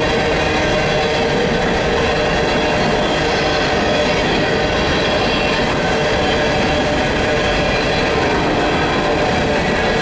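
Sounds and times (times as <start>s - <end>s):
steel wheels rumbling on rail: 0.0s - 10.0s.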